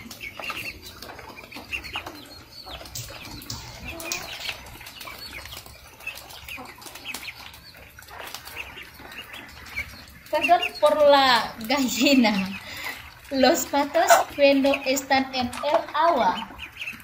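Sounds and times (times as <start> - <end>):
birds pecking and rustling: 0.0 - 17.0
ducklings peeping: 0.0 - 17.0.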